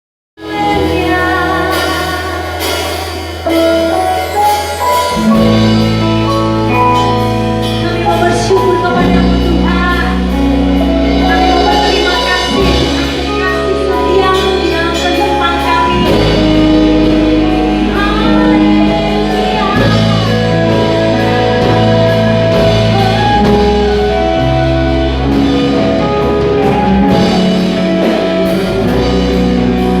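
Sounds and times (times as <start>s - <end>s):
person singing: 0.4s - 10.4s, 11.3s - 25.9s
sustained low organ chords: 0.8s - 30.0s.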